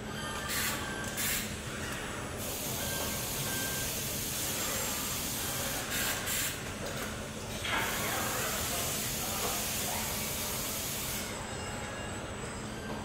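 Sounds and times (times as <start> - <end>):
machinery hum and hiss: 0.0 - 13.0.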